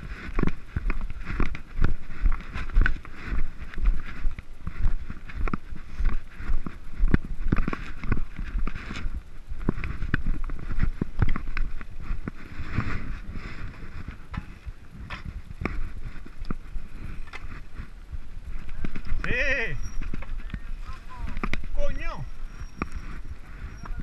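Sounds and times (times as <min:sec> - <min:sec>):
bike knocking and rattling: 0:00.0 - 0:24.0
bike tyres crunching over stones: 0:00.0 - 0:24.0.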